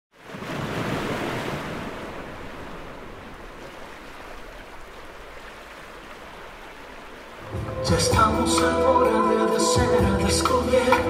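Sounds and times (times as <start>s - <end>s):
ocean surf washing in: 0.2s - 11.0s.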